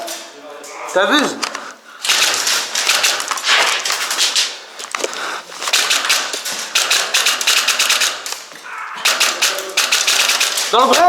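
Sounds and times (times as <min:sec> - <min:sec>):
airsoft guns firing bursts: 0:02.0 - 0:11.0.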